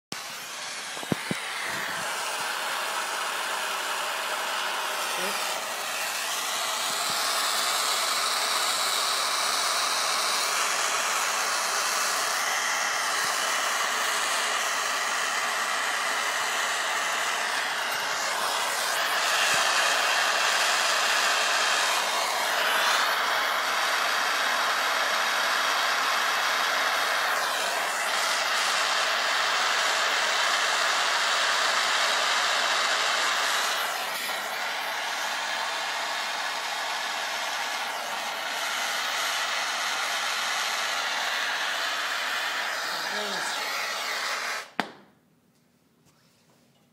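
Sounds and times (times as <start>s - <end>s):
gas torch flame hissing: 0.1s - 44.8s.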